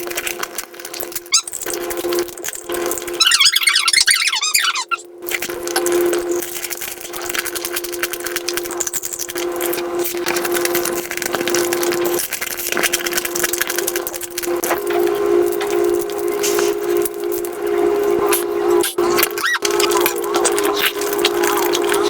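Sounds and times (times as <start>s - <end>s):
rapid crackling of shell chewing: 0.0s - 22.0s
steady hum: 0.0s - 22.0s.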